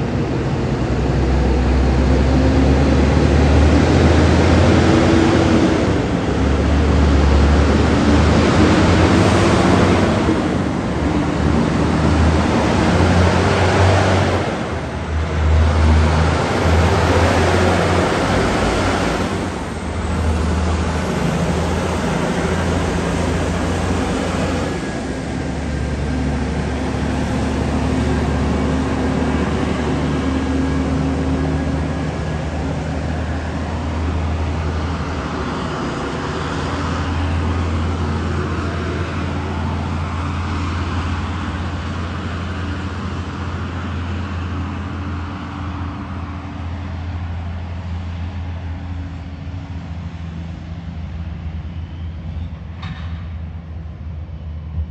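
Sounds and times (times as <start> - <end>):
truck diesel engine hum: 0.0 - 52.4
road and traffic noise: 0.0 - 54.9.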